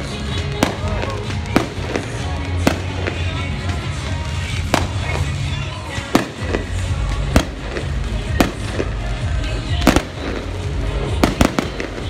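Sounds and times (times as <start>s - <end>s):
background music: 0.0s - 12.0s
fireworks bursting: 0.0s - 12.0s.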